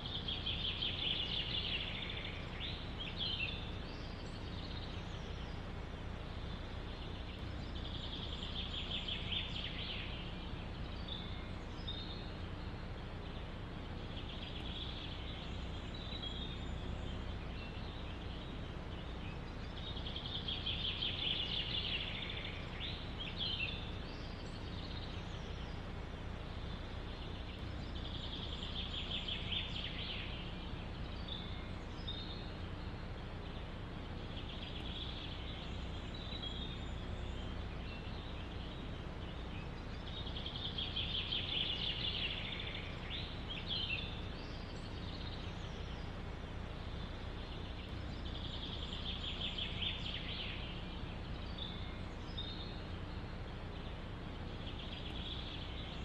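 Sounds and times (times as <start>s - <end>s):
songbird trilling song: 0.0s - 56.0s
wind through trees: 0.0s - 56.0s.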